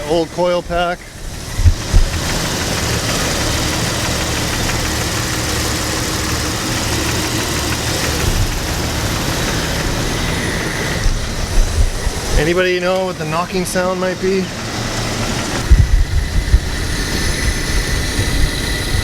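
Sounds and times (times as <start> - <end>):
engine idling rough with knocking: 0.0 - 19.0.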